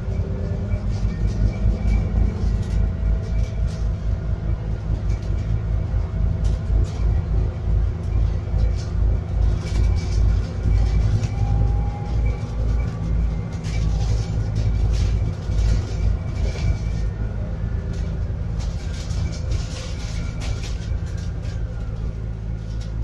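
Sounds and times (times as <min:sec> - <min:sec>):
bus engine rumble: 0:00.0 - 0:23.0.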